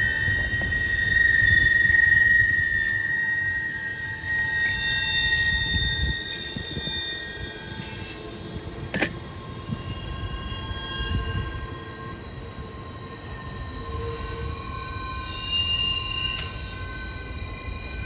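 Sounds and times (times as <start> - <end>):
low rumble of freight cars: 0.0 - 18.0
train wheels squealing on rail: 0.0 - 18.0.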